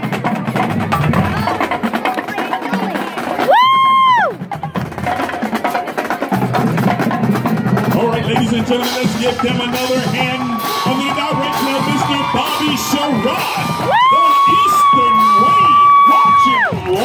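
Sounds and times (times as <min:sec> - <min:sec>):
drums and percussion: 0:00.0 - 0:17.0
marching band playing: 0:00.0 - 0:17.0.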